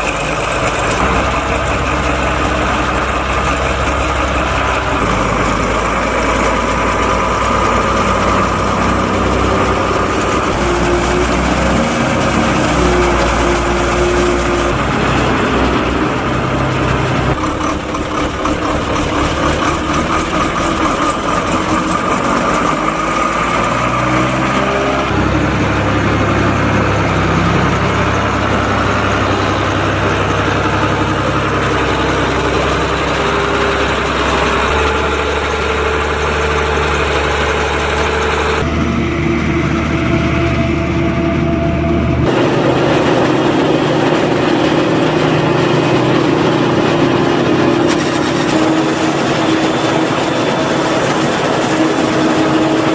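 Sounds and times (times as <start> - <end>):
forage harvester running: 0.0 - 52.9
tractor engine working: 0.0 - 52.9.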